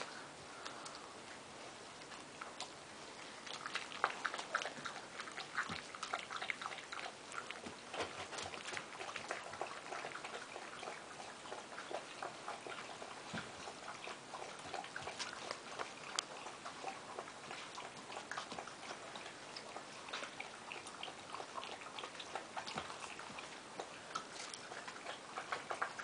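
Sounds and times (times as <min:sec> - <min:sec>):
puppies crunching kibble: 0:00.0 - 0:26.0.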